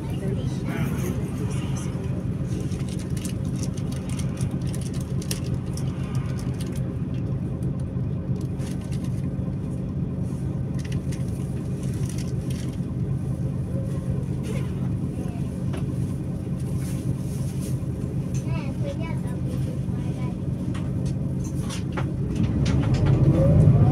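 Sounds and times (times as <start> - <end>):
bus diesel engine idling: 0.0 - 23.9.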